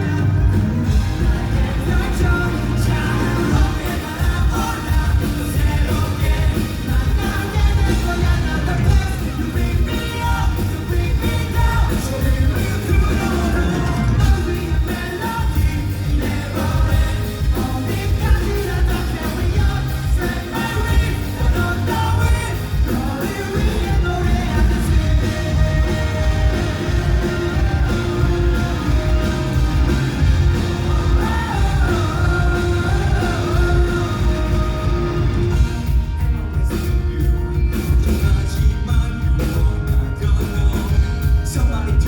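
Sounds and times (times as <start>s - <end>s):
person singing lead vocal: 0.0s - 37.2s, 37.8s - 42.0s
pop-rock band playing live: 0.0s - 42.0s.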